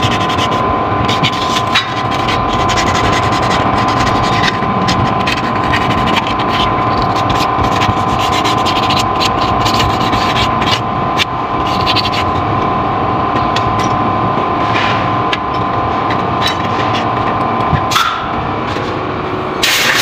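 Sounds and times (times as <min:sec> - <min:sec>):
machine running with whine: 0:00.0 - 0:20.0.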